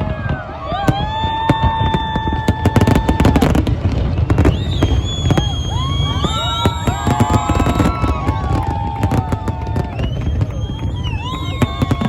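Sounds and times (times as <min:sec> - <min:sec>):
fireworks bangs and crackling: 0:00.0 - 0:12.0
fireworks whistles: 0:00.8 - 0:12.0.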